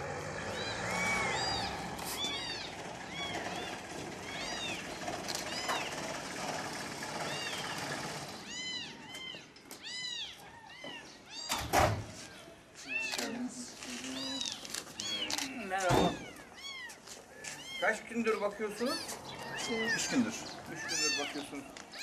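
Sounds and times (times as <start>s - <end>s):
kittens mewing: 0.4s - 5.9s, 7.1s - 11.7s, 12.8s - 18.1s, 18.7s - 22.0s.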